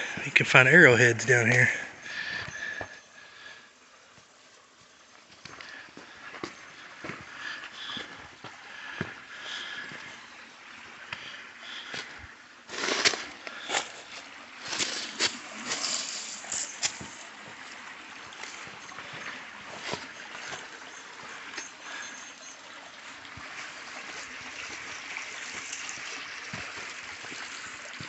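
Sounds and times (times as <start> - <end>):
creek water over rocks: 0.0 - 28.0.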